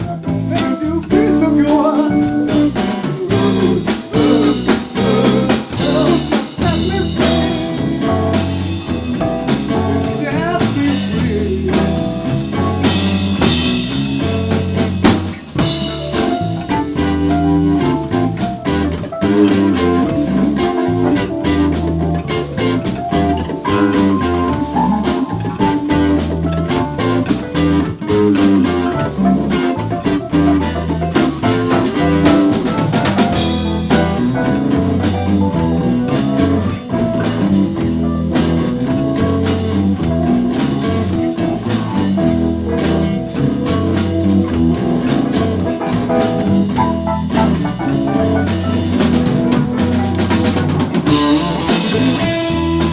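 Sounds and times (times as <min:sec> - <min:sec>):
bass: 0:00.0 - 0:52.9
drum kit steady beat: 0:00.0 - 0:52.9
electric guitar: 0:00.0 - 0:52.9.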